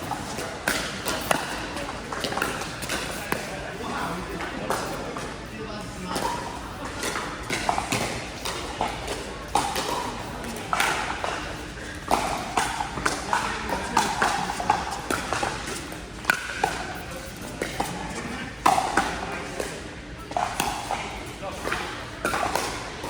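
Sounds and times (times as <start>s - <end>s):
faint voices: 0.0s - 23.0s.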